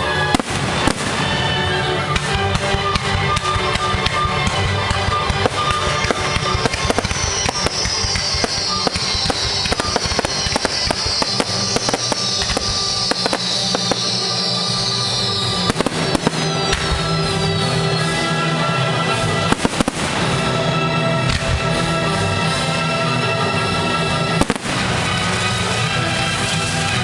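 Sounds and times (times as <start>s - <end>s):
fireworks banging and crackling: 0.0s - 27.0s
music: 0.0s - 27.0s.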